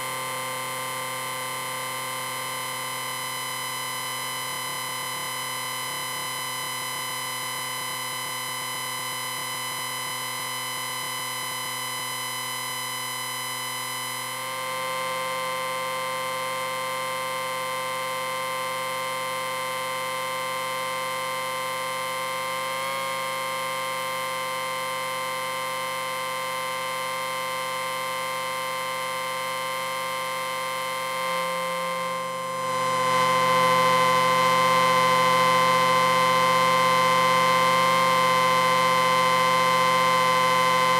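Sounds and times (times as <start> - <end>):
amplifier whine: 0.0 - 40.9.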